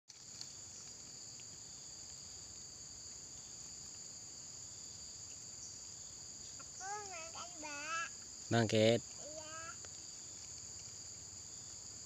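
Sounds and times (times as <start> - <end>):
faint ticks: 0.1 - 4.2, 5.2 - 8.4, 9.0 - 12.0
high-pitched insect chorus: 0.1 - 12.0.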